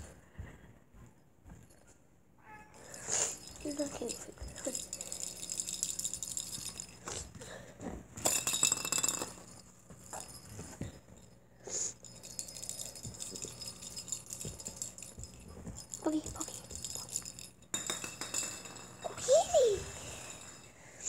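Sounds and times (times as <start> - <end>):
bell ball jingling and rattling: 2.8 - 7.4, 8.2 - 21.0.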